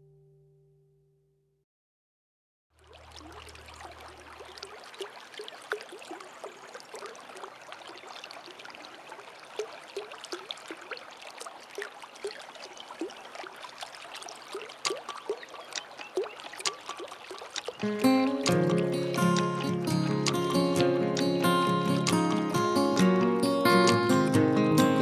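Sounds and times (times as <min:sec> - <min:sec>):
water drips and plinks: 0:02.8 - 0:25.0
water trickling and gurgling: 0:02.8 - 0:25.0.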